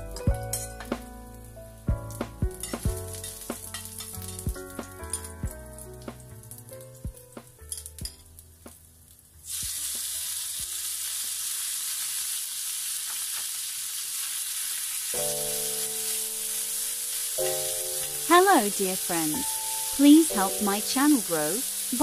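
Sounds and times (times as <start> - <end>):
beef sizzling in hot oil: 0.0 - 22.0
ginger frying quietly: 0.0 - 22.0.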